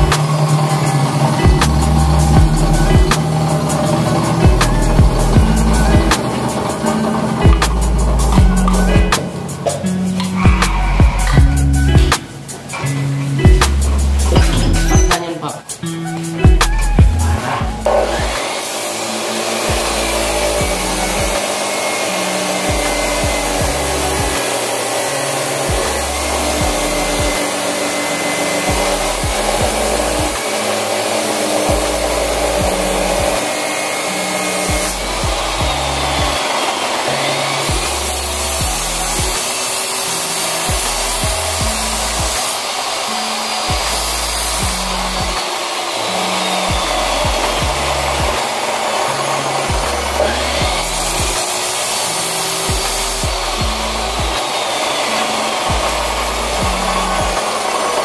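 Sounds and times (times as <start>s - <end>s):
chop saw grinding steel: 0.0s - 16.4s, 17.2s - 58.0s.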